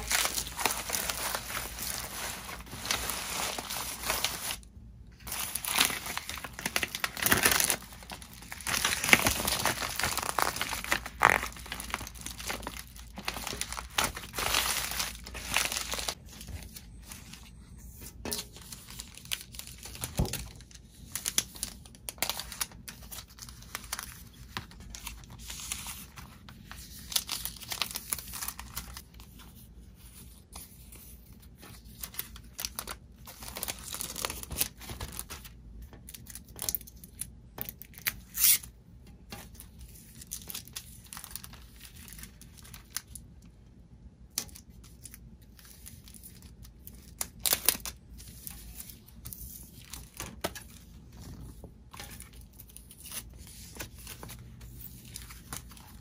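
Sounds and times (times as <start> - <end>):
packaging crinkling and tearing: 0.0 - 17.4, 18.5 - 29.2, 31.7 - 35.5, 39.4 - 43.3, 44.4 - 56.0.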